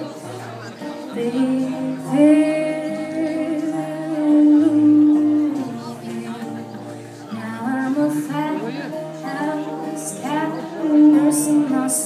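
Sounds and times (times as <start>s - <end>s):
acoustic band music: 0.0s - 12.0s
person singing: 1.1s - 6.6s, 7.3s - 12.0s.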